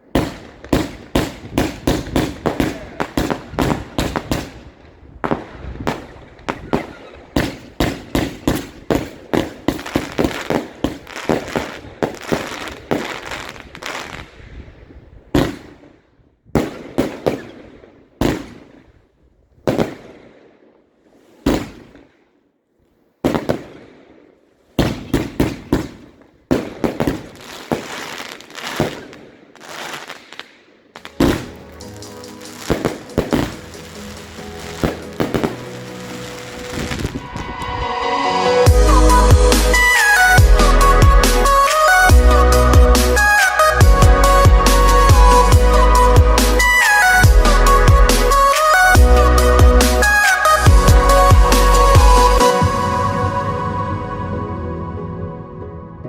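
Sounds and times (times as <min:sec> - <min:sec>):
fireworks shots and bursts: 0:00.0 - 0:22.4, 0:23.2 - 0:52.9.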